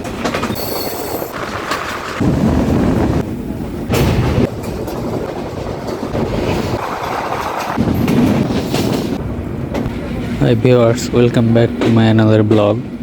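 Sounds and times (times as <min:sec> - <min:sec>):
train running on rails: 0:00.0 - 0:13.0.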